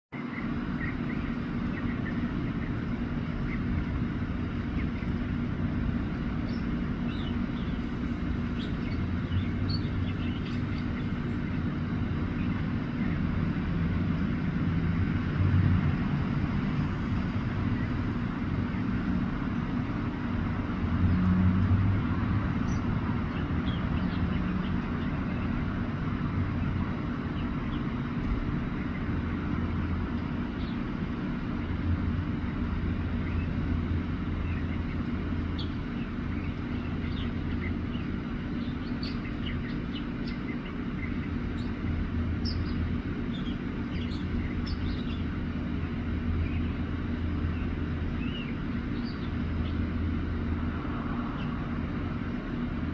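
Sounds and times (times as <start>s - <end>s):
low rumble of road traffic: 0.1s - 52.9s.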